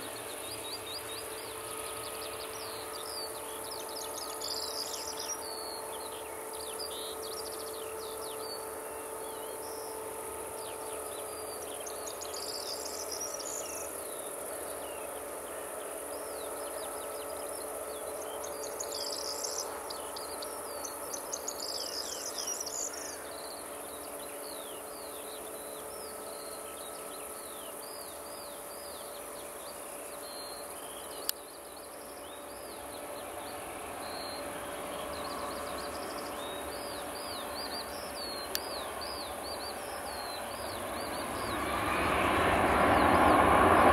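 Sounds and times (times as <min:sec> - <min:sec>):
birdsong chirps: 0:00.0 - 0:43.9
distant jet engines idling: 0:00.0 - 0:43.9
insect buzz: 0:00.0 - 0:43.9.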